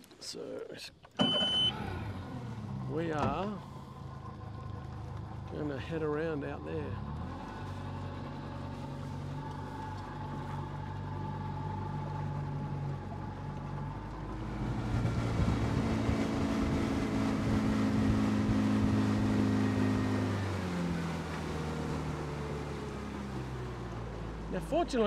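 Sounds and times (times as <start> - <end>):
outboard motor running: 1.1 - 25.0.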